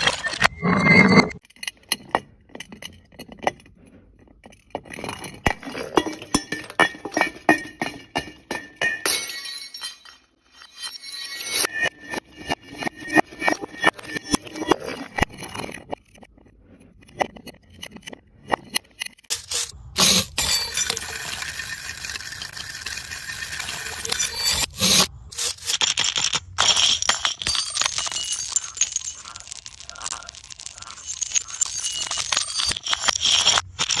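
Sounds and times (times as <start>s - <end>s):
glass shards scraping and clinking: 0.0s - 3.8s, 4.4s - 16.2s, 19.3s - 34.0s
glass crunching and crackling: 0.0s - 16.5s, 17.2s - 34.0s.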